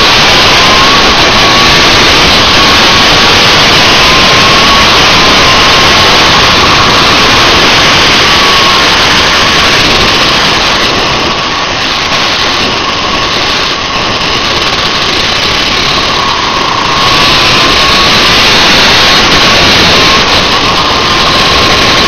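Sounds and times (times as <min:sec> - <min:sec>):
two-stroke kart engine racing: 0:00.0 - 0:22.0
wind rush on microphone: 0:00.0 - 0:22.0.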